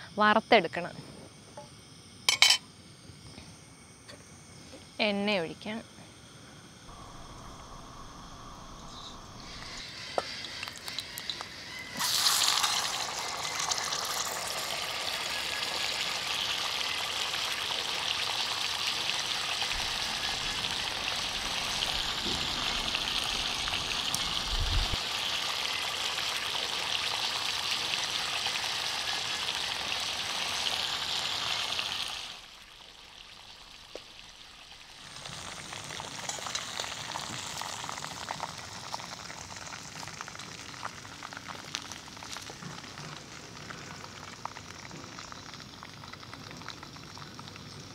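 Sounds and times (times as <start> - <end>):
duck sizzling in hot oil: 6.9 - 47.9.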